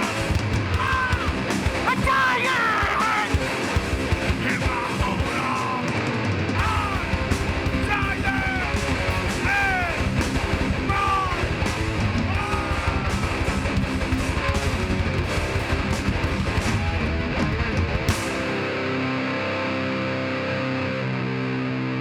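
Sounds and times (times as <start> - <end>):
drums: 0.0 - 21.7
distorted guitars: 0.0 - 22.0
metal band playing live: 0.0 - 22.0.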